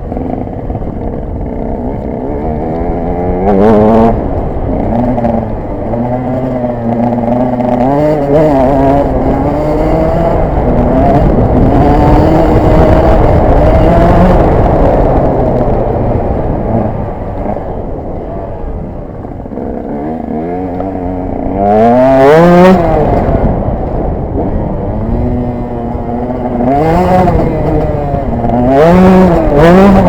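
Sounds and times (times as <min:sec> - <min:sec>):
two-stroke motorcycle engine revving: 0:00.0 - 0:30.0.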